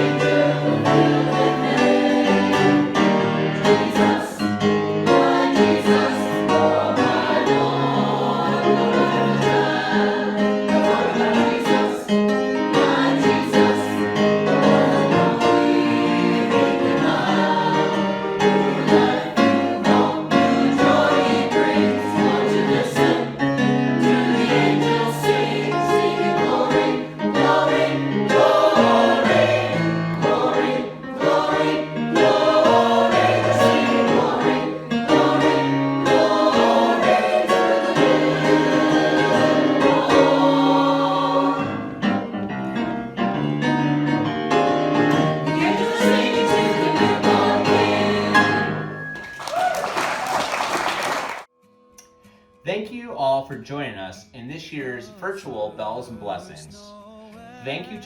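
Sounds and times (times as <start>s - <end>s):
choir singing: 0.0s - 43.6s, 44.9s - 49.0s
sustained musical accompaniment: 0.0s - 49.4s.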